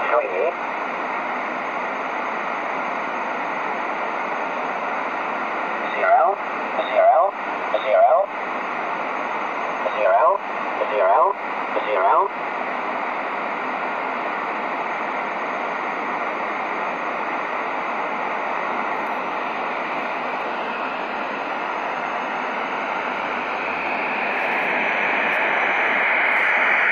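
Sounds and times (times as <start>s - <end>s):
shortwave radio static hiss: 0.0s - 26.9s.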